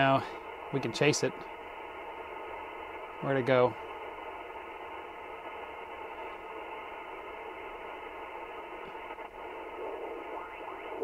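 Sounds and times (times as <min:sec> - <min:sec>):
faint steady radio tones: 0:00.0 - 0:11.0
radio static hiss: 0:00.0 - 0:11.0.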